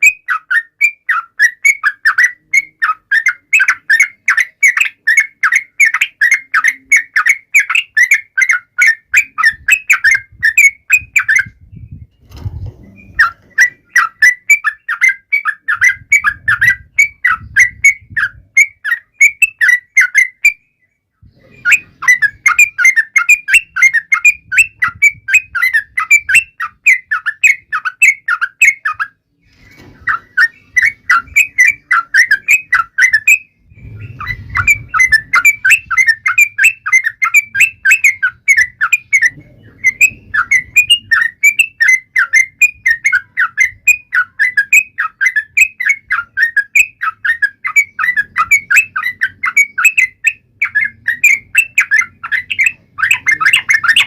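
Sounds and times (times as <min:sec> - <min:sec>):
bulbul chattering call: 0:00.0 - 0:11.6, 0:13.0 - 0:20.6, 0:21.4 - 0:29.2, 0:30.0 - 0:54.0.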